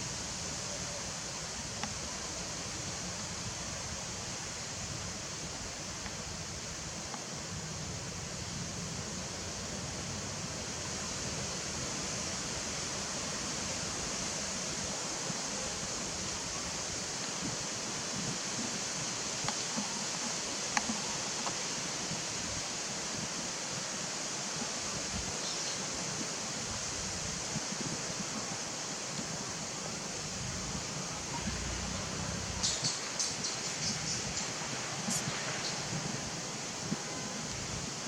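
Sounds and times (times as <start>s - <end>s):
steady hissing noise: 0.0s - 38.0s.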